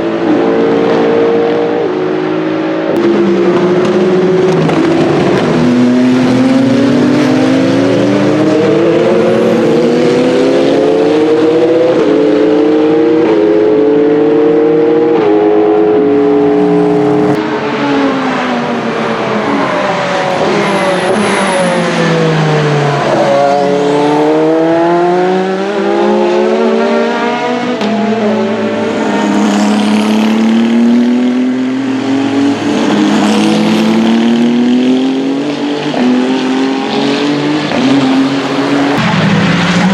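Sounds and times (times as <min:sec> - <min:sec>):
race car engines at high revs: 0:00.0 - 0:39.9.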